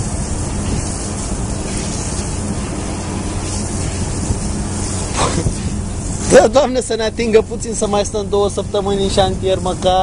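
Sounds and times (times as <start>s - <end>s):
constant rushing noise: 0.0s - 10.0s
ship engines droning: 0.0s - 10.0s.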